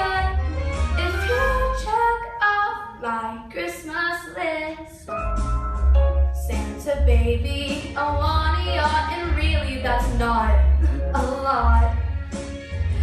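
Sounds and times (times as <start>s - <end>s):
backing track with bass: 0.0s - 2.5s, 5.1s - 13.0s.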